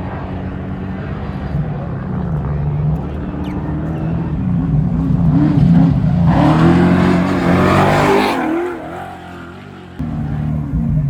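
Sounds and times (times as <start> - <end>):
race vehicle engine revving: 0.0 - 11.0.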